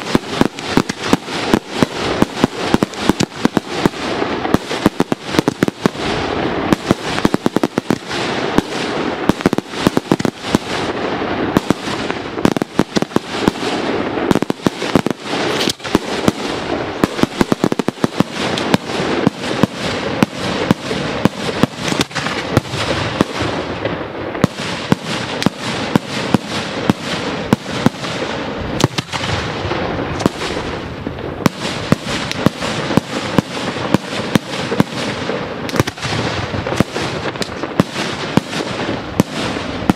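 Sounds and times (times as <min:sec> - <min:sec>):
firework shells bursting: 0:00.0 - 0:39.9
fireworks crackle and rumble: 0:00.0 - 0:39.9.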